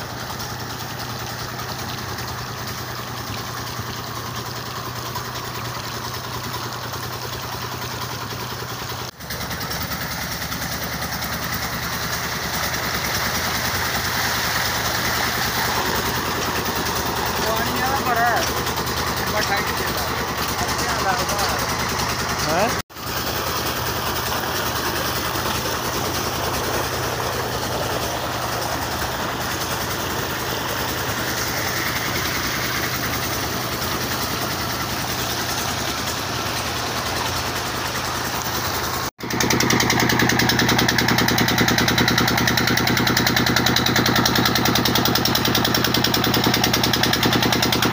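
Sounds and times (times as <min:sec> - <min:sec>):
pump engine running: 0:00.0 - 0:47.9
water gushing into tank: 0:00.0 - 0:47.9.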